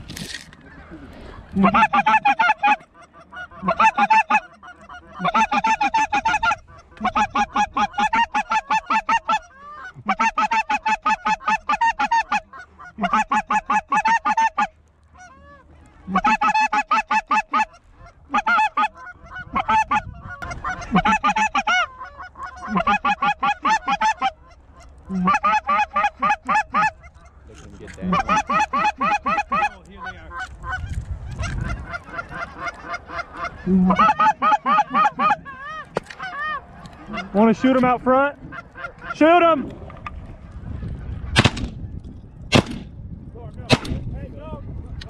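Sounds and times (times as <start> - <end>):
goose call honks and clucks: 0.6 - 42.6.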